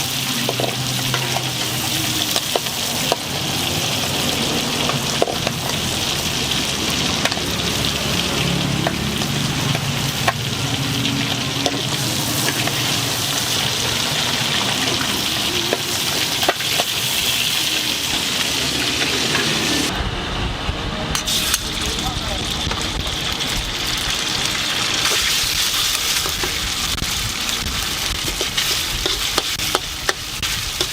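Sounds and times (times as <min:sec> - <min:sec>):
food sizzling in a wok: 0:00.0 - 0:19.9, 0:21.2 - 0:30.9
low rumble: 0:00.9 - 0:30.8.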